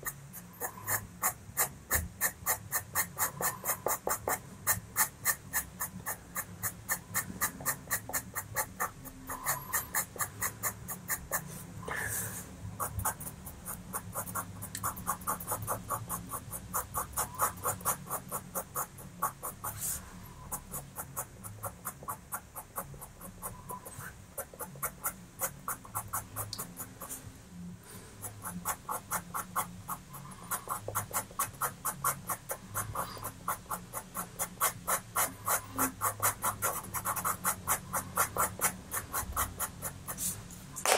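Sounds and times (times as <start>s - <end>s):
pencil scratching on paper: 0.0s - 27.4s, 28.1s - 40.9s.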